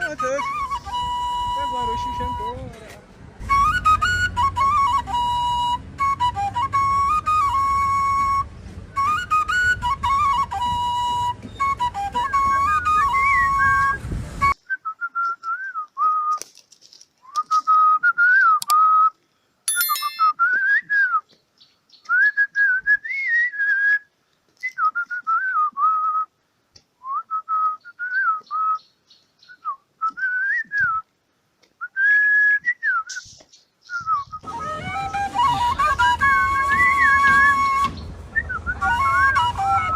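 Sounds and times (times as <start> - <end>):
person whistling a tune: 0.0 - 2.6, 3.5 - 16.4, 17.2 - 19.2, 20.0 - 21.3, 22.0 - 26.3, 27.0 - 28.8, 29.5 - 31.0, 31.8 - 39.9.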